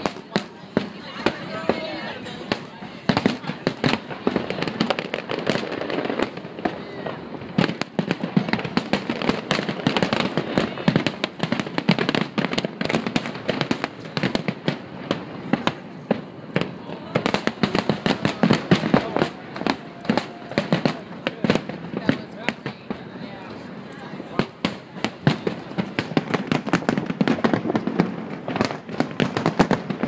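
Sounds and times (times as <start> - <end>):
firework crackling: 0.0 - 30.0.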